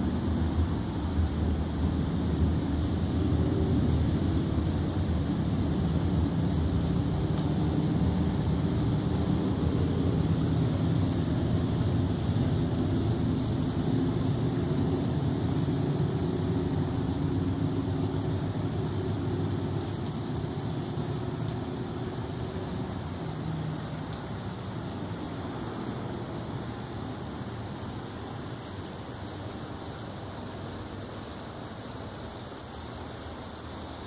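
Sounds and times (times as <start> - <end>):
creek water rushing: 0.0 - 34.0
faint high whine: 0.0 - 34.0.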